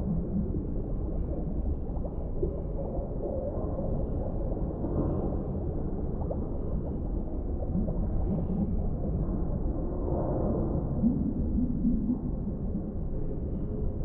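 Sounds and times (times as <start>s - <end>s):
muffled deep underwater rumble: 0.0s - 14.0s.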